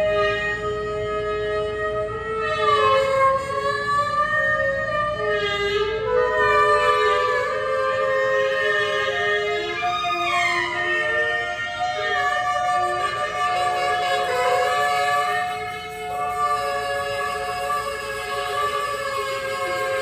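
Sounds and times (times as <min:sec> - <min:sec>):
alto saxophone: 0:00.0 - 0:20.0
clarinet: 0:00.0 - 0:20.0
soprano saxophone: 0:00.0 - 0:20.0.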